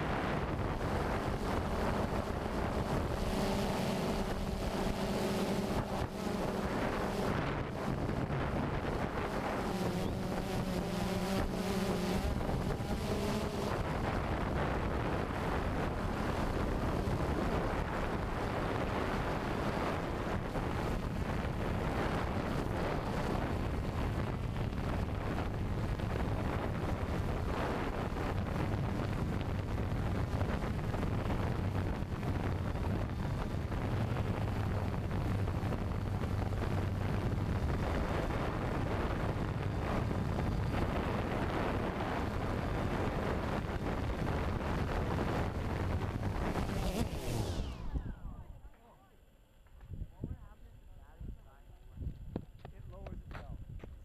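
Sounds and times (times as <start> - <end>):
wind buffeting microphone: 0.0 - 48.6, 49.8 - 54.0
low hum: 0.0 - 52.2.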